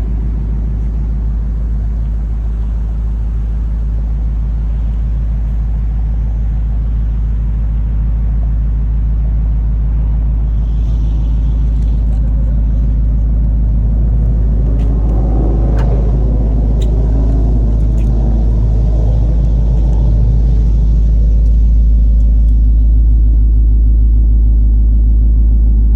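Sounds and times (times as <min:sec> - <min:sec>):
engine rumbling: 0:00.0 - 0:25.9.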